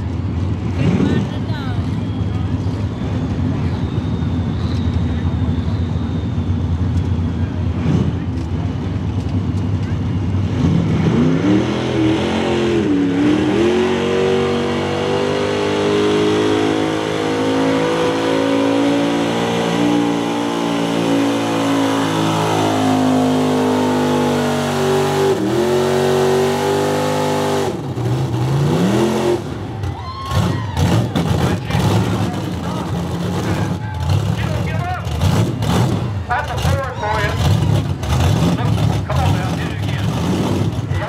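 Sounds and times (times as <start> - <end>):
truck engine at full throttle: 0.0 - 41.0.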